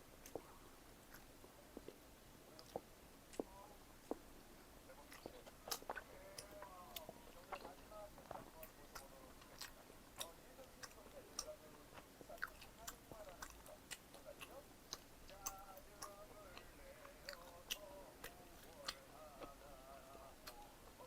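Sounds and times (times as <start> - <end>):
person chewing food: 0.2 - 4.3, 4.9 - 21.0.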